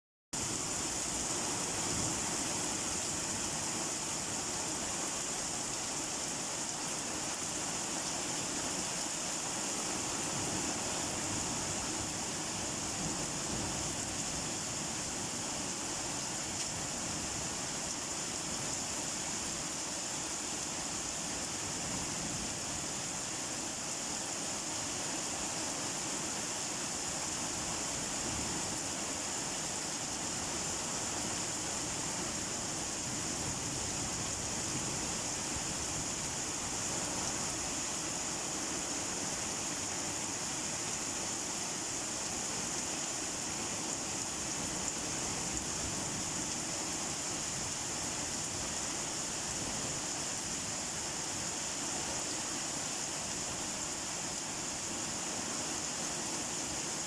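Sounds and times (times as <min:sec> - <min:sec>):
steady rain falling: 0:00.4 - 0:57.0.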